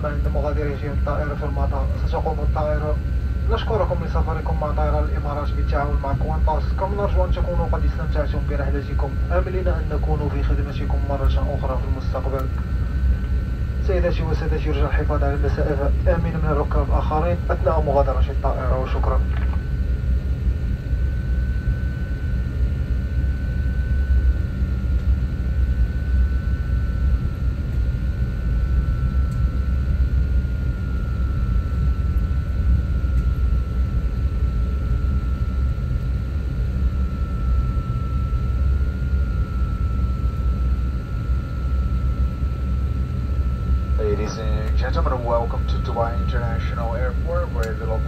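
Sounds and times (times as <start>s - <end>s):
airliner cabin rumble: 0.0s - 48.0s
jet engine whine at idle: 0.0s - 48.0s.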